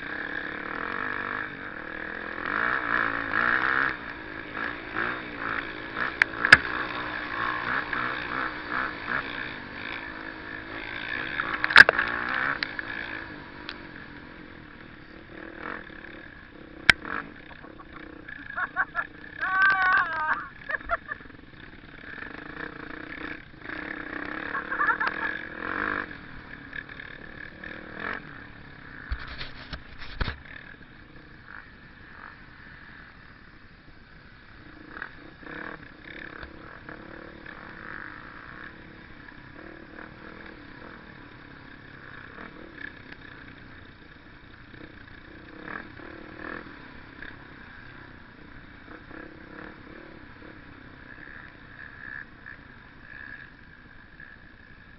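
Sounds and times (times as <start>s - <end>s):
motorcycle engines running: 0.0s - 54.9s.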